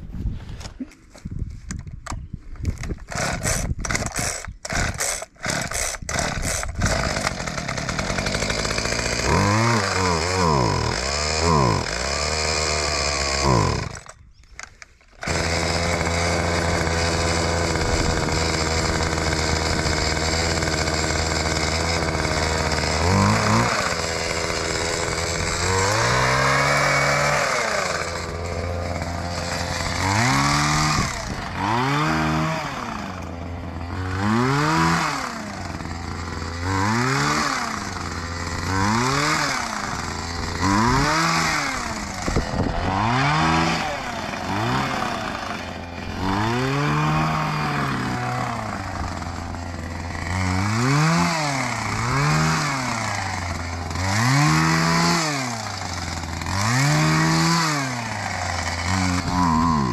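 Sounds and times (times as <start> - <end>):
hedge cutter engine revving: 2.8 - 14.3, 15.0 - 59.9.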